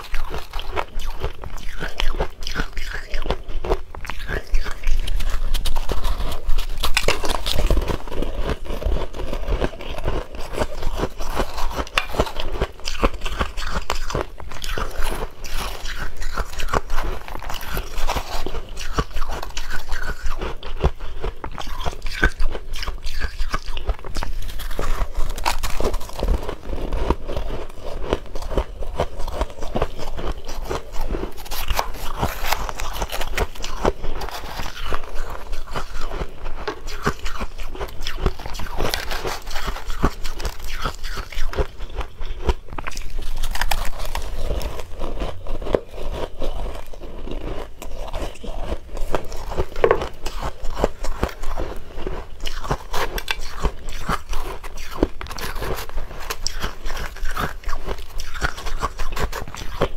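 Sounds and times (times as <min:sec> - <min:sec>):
crunching and chewing shaved ice: 0:00.0 - 0:59.9.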